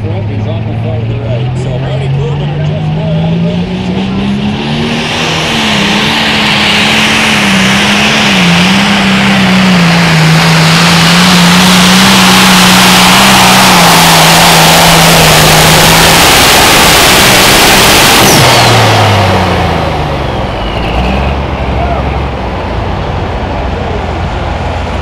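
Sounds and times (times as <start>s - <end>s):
tractor diesel engine roaring: 0.0s - 25.0s.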